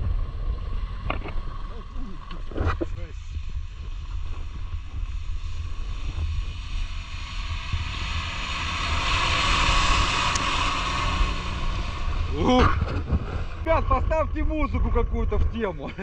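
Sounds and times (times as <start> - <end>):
off-road vehicle engine rumble: 0.0 - 16.0
wind buffeting microphone: 0.0 - 16.0
rushing noise: 2.5 - 15.8.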